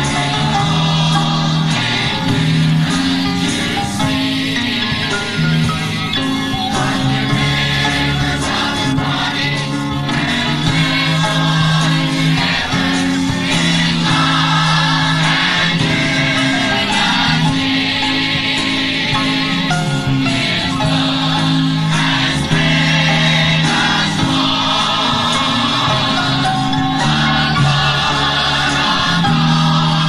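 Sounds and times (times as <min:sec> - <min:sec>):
choir singing a gospel song: 0:00.0 - 0:30.0.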